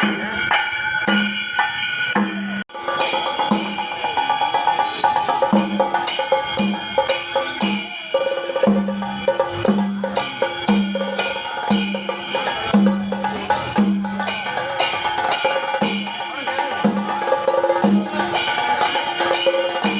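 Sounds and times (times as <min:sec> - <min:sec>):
percussion music with drums: 0:00.0 - 0:19.9.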